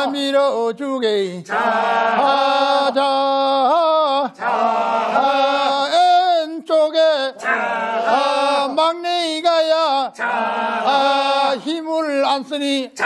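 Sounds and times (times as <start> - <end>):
men chanting work song: 1.4 - 13.0.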